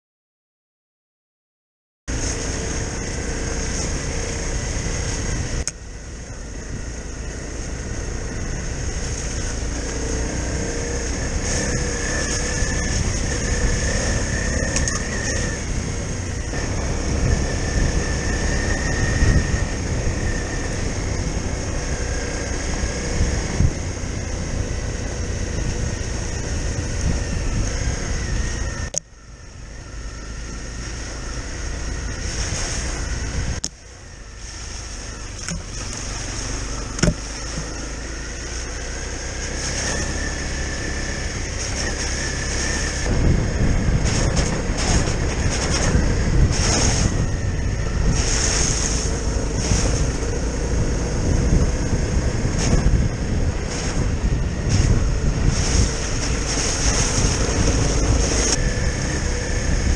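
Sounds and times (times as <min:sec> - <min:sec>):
motorcycle engine running: 0:02.1 - 0:59.9
wind buffeting microphone: 0:02.4 - 0:29.0, 0:30.5 - 0:59.9.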